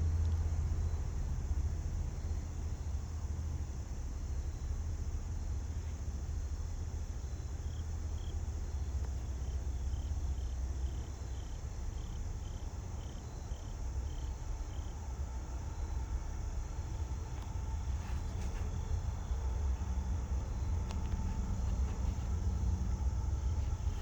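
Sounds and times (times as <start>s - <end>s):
cricket chirping: 0.0s - 24.0s
steady low rumble: 0.0s - 24.0s.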